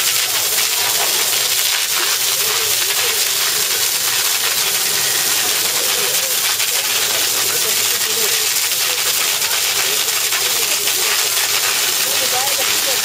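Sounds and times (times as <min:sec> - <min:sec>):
hose water spraying on hide: 0:00.0 - 0:13.0.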